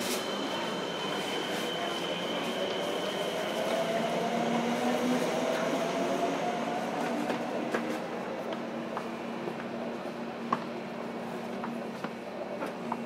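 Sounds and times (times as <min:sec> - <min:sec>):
train running noise in tunnel: 0:00.0 - 0:13.0.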